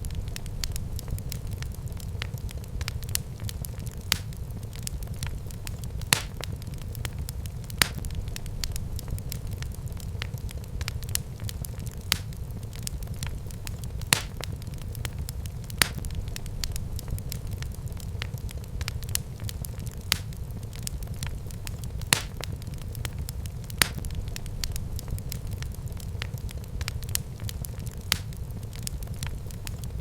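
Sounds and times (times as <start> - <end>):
wood fire burning: 0.0 - 30.0.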